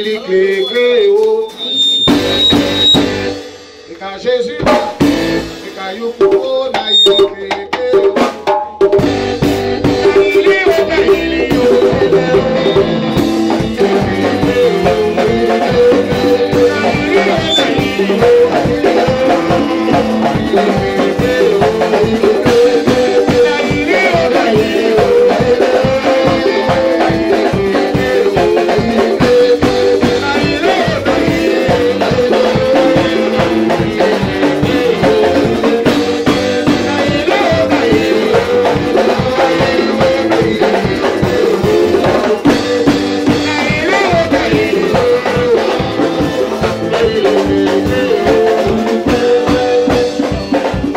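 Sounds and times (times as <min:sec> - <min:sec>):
man singing through microphone: 0:00.0 - 0:03.0, 0:03.9 - 0:50.9
steady drum beat: 0:00.0 - 0:50.9.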